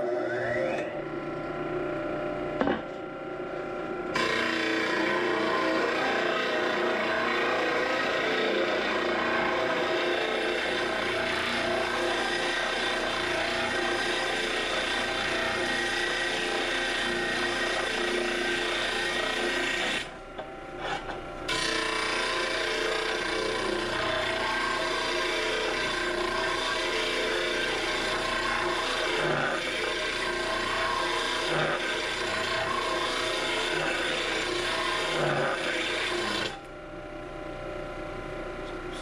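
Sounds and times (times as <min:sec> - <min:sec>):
motor hum: 0:00.0 - 0:39.0
steel grinding on a disc sander: 0:04.2 - 0:20.1, 0:20.8 - 0:36.6.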